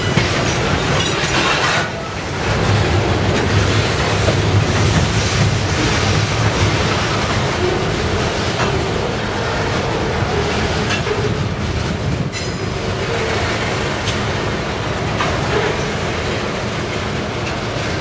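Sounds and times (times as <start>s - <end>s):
freight train rumbling past: 0.0s - 18.0s
wheels clacking over rail joints: 0.0s - 18.0s.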